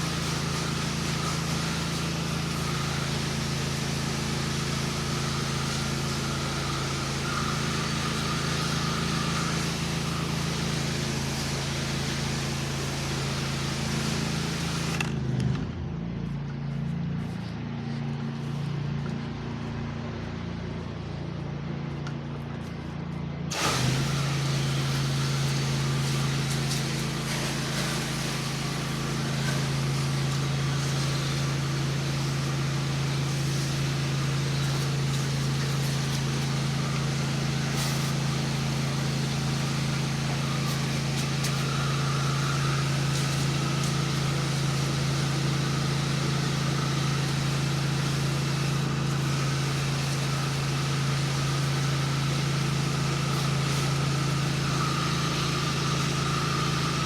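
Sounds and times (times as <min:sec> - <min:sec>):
hiss of water spray: 0:00.0 - 0:15.0, 0:23.5 - 0:57.0
pressure washer engine running: 0:00.0 - 0:57.0.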